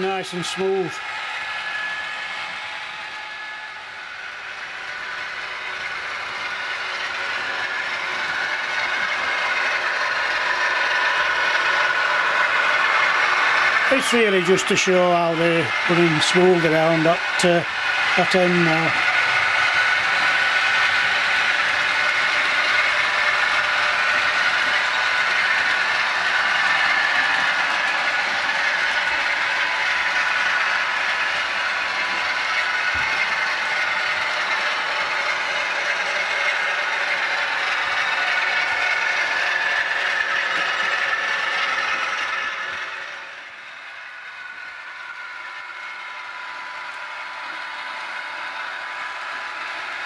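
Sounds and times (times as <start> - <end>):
model train running on rails: 0.0 - 50.0.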